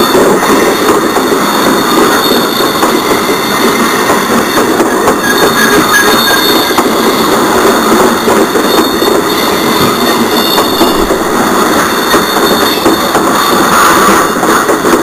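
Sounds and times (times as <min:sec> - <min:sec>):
model train wheels on rail: 0:00.0 - 0:15.0.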